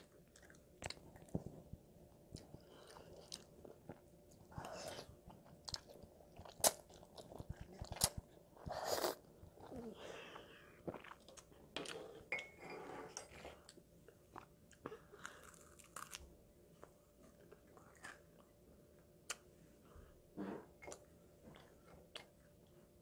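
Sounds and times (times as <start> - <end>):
child chewing food: 0.0 - 12.3, 13.0 - 20.1, 20.7 - 23.0.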